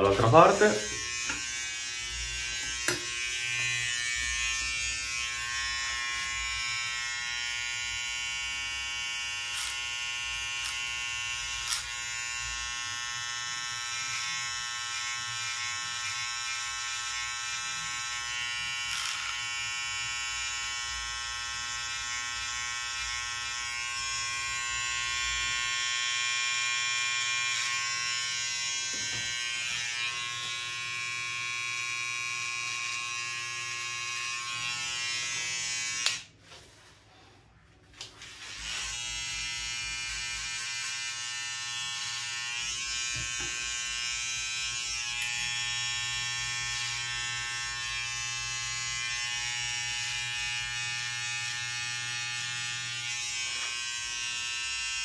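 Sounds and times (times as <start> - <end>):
electric clipper buzzing: 0.0 - 36.4, 38.0 - 55.0.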